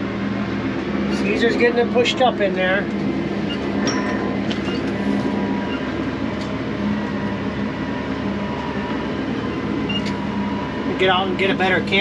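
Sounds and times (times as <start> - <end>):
dump box mechanical rumble: 0.0 - 12.0
faint steady whine: 0.0 - 12.0
tractor engine running: 0.0 - 12.0.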